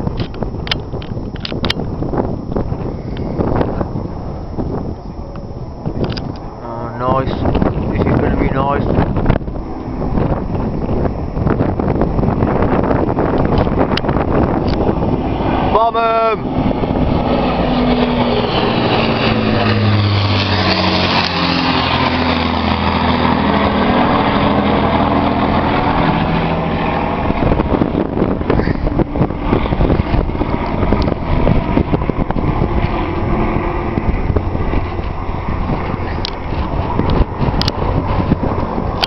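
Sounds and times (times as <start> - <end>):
propeller aircraft engines droning: 0.0 - 39.0
wind buffeting microphone: 0.0 - 39.0.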